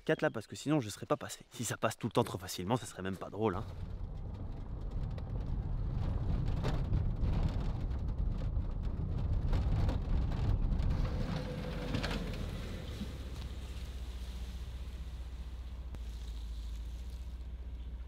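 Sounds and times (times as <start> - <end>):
gravel crackling under tyres: 2.3 - 18.0
car engine and road rumble: 3.4 - 18.0.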